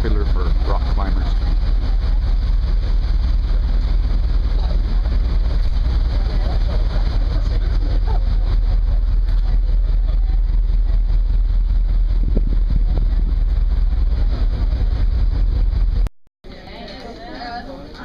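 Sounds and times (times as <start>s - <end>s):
ship engine drone: 0.0s - 16.1s
wind buffeting microphone: 0.0s - 16.1s.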